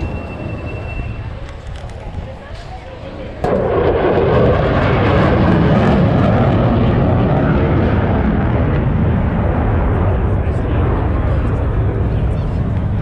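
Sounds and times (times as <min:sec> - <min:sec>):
light airplane engine: 0:00.0 - 0:13.0.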